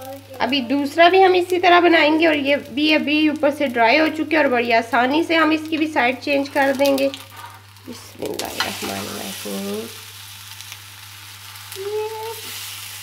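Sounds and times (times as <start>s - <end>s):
pancake sizzling in oil: 0.0s - 13.0s.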